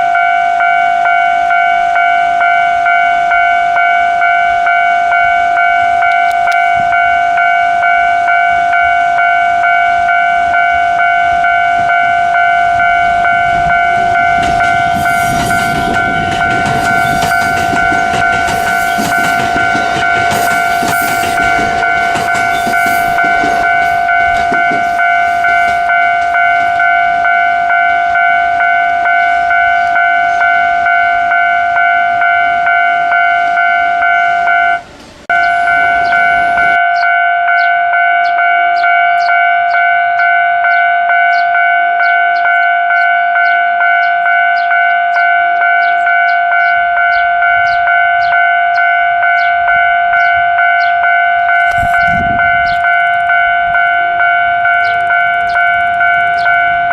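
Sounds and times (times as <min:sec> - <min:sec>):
level crossing warning bell: 0:00.0 - 0:56.9
passing train running noise: 0:00.0 - 0:56.9.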